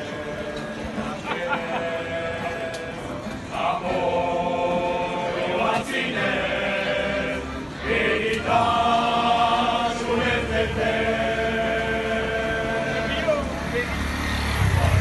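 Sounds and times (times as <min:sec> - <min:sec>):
men singing together: 0:00.0 - 0:13.4.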